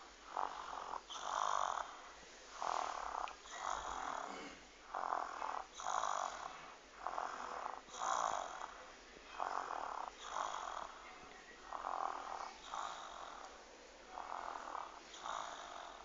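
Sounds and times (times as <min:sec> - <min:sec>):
baby snoring: 0:00.3 - 0:13.5, 0:14.1 - 0:16.0.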